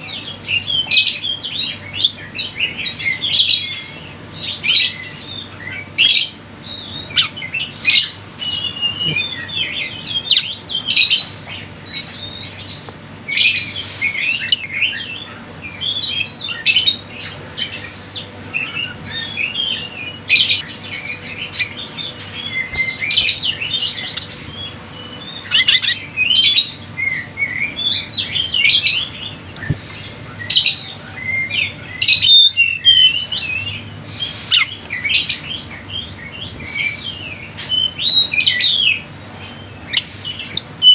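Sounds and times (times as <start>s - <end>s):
small birds chirping and ticking: 0.0s - 40.9s.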